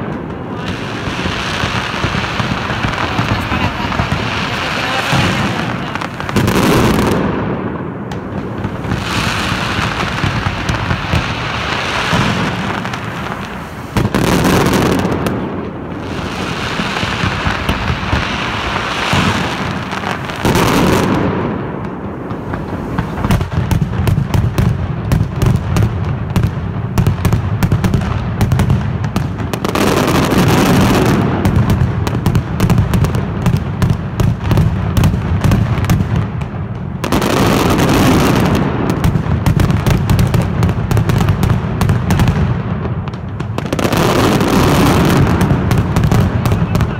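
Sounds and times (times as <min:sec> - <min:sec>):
firecrackers exploding rapidly: 0:00.0 - 0:46.9.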